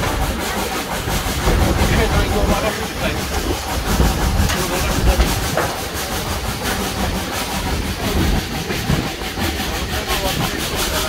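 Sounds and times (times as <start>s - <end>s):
steam locomotive exhaust: 0.0s - 11.0s
wheels clattering on rails: 0.0s - 11.0s.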